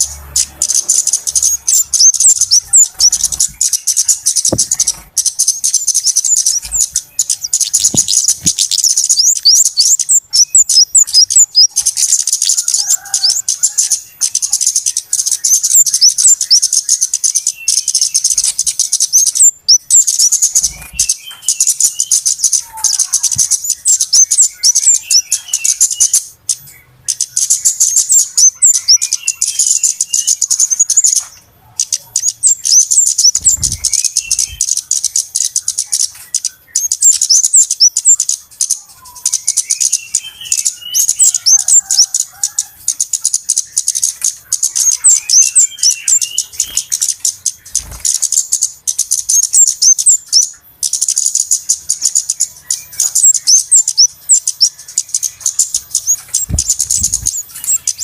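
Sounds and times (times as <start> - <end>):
chorus of bird calls: 0.0 - 58.0.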